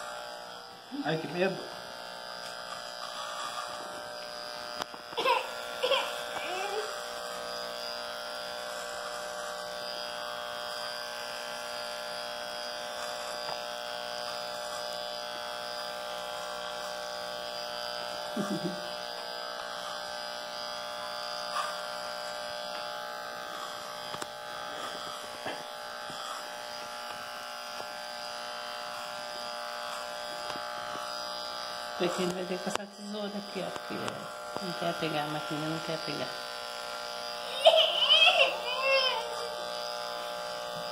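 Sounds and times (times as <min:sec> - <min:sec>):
electric hair clipper buzzing: 0:00.0 - 0:40.9.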